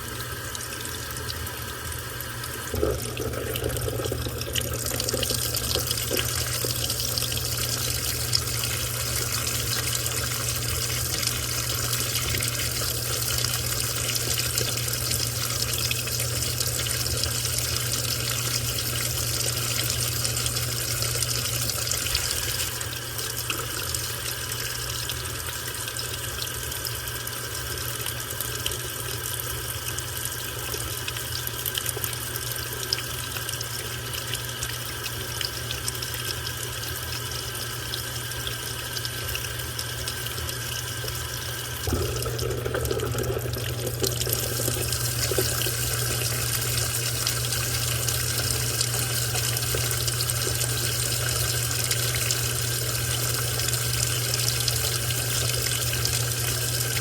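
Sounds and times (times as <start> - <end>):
low steady hum: 0.0 - 57.0
washing machine water rushing: 0.0 - 57.0.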